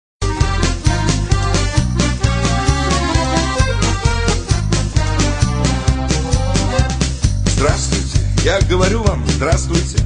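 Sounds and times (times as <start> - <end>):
background music with steady beat: 0.2 - 10.0.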